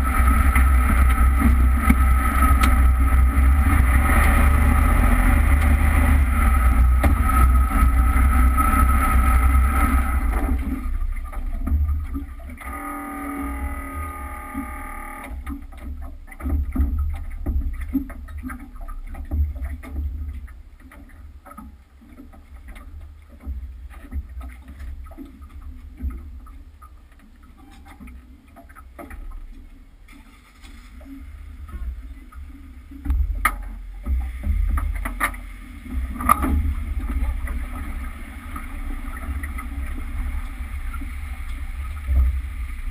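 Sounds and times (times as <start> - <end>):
boat engine running: 0.0 - 30.1, 30.9 - 42.9
knocks and thumps on hull: 0.0 - 42.9.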